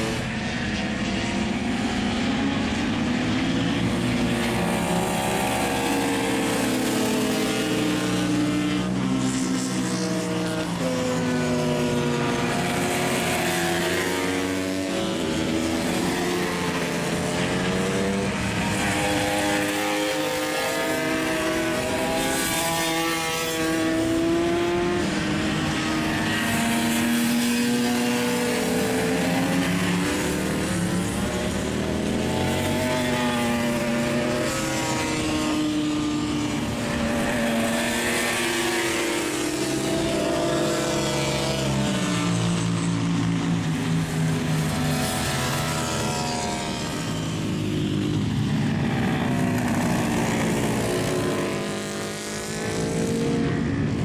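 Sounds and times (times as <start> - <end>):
racing motorcycles revving: 0.0 - 54.0.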